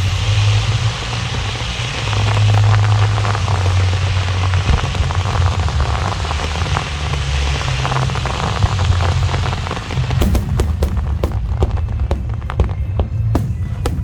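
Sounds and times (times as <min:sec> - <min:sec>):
fireworks crackling and sizzling: 0:00.0 - 0:14.0
sharp firework cracks: 0:00.0 - 0:14.0
steady low rumble: 0:00.0 - 0:14.0.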